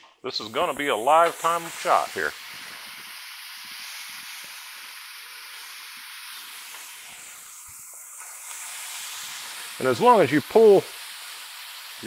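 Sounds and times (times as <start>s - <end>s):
burger patties sizzling on griddle: 0.3s - 12.0s.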